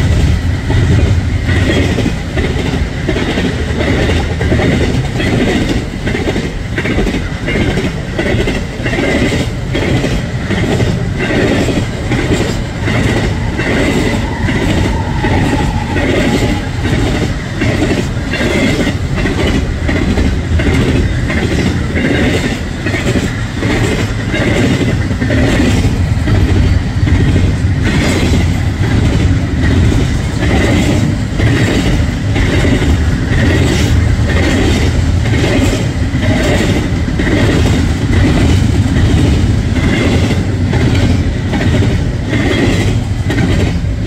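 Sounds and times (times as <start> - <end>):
freight train rumbling: 0.0 - 44.0
wheels clacking over rail joints: 0.0 - 44.0.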